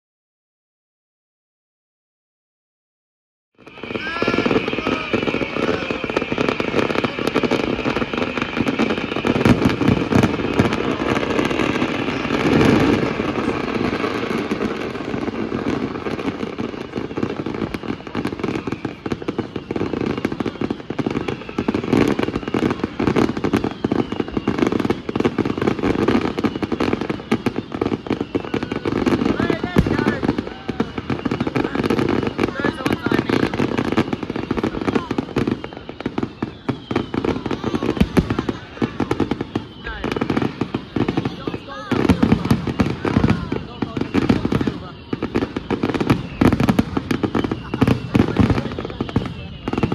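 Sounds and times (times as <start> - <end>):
fireworks crackling and popping: 3.6 - 49.9
heavy firework bursts: 3.6 - 49.9.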